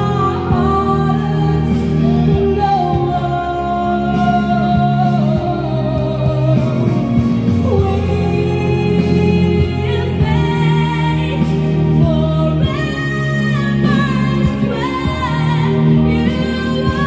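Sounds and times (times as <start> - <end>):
instrumental backing: 0.0 - 17.0.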